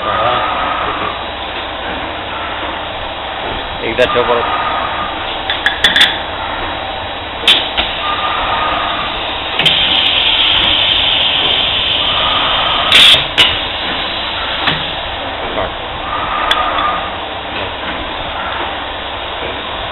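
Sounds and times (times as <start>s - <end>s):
continuous machine noise: 0.0s - 19.9s.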